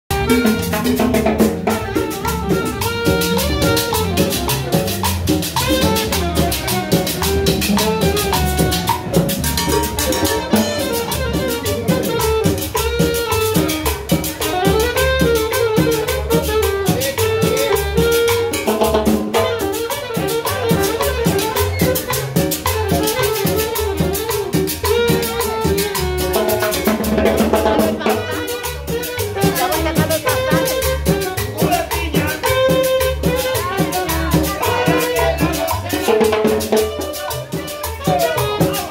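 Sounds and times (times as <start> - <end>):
congas: 0.1 - 38.9
double bass: 0.1 - 38.9
latin dance band: 0.1 - 38.9.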